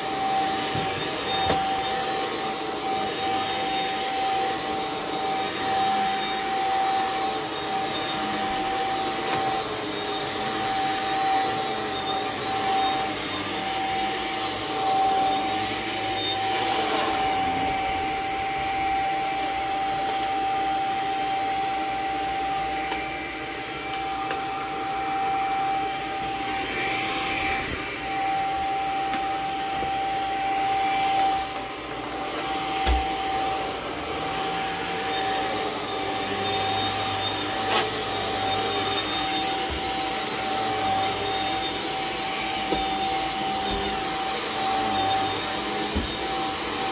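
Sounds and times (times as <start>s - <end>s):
vacuum cleaner running on carpet: 0.0s - 46.9s.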